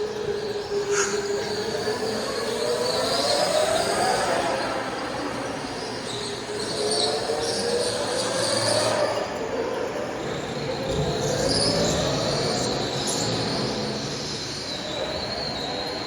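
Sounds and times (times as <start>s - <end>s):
go-kart engines passing: 0.0s - 16.0s.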